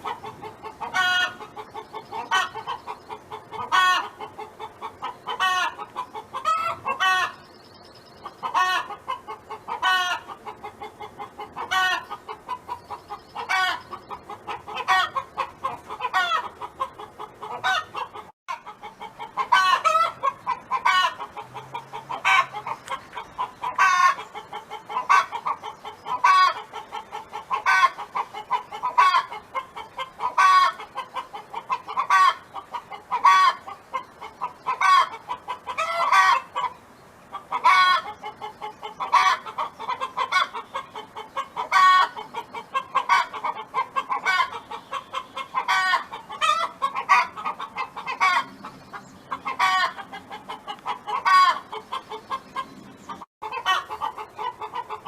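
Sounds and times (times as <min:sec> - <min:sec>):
hen clucking and cackling: 0:00.0 - 0:55.0.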